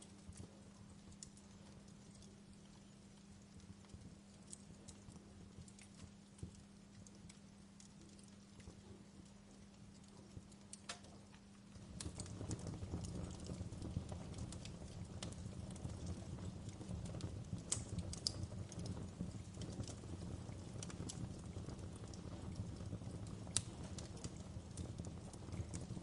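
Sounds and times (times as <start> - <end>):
low rumble of flames: 0.0 - 26.0
wood fire popping and snapping: 0.0 - 26.0.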